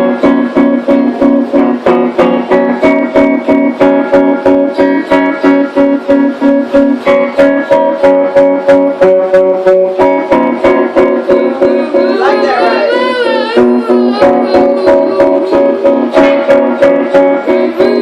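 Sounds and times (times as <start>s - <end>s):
guitar chord picked rapidly: 0.0s - 18.0s.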